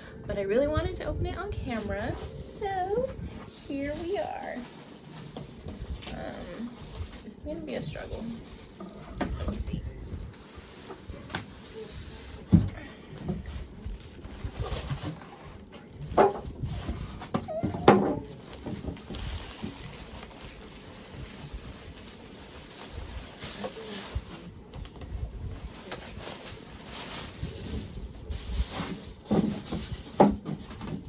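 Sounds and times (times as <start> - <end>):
packing rustling: 1.7 - 31.0.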